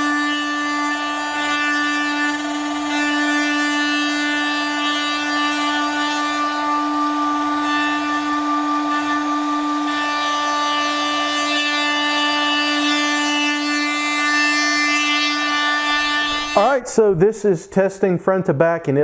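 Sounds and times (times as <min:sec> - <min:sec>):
router spindle whine: 0:00.0 - 0:16.7.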